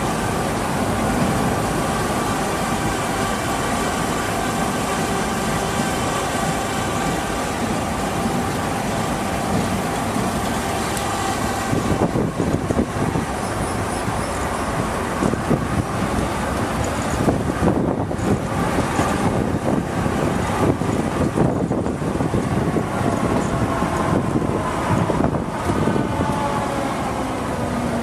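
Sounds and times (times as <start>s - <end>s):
tram wheels rattling on rails: 0.0s - 28.0s.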